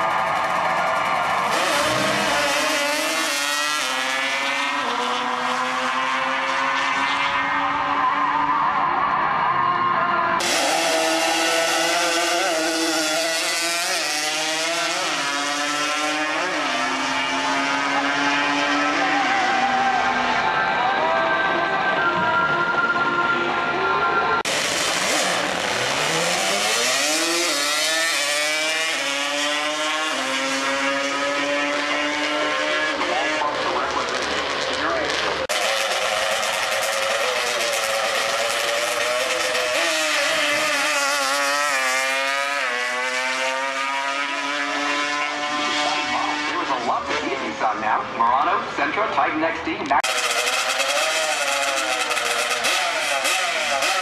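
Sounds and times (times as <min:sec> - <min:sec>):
atv engine at full throttle: 0:00.0 - 0:08.9, 0:10.0 - 0:54.0.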